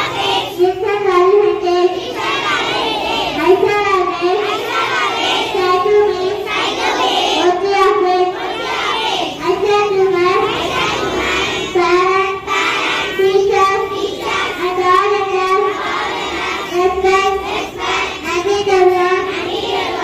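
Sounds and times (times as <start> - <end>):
children singing into a microphone: 0.0 - 20.0.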